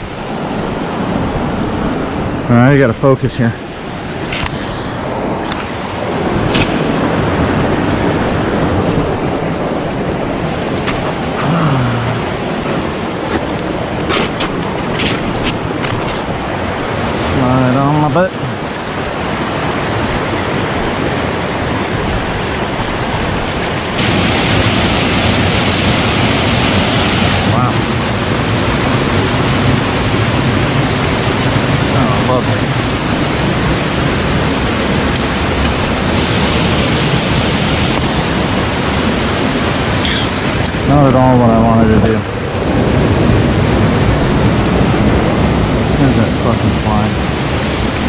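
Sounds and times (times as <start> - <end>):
water rushing over rocks: 0.0 - 48.0.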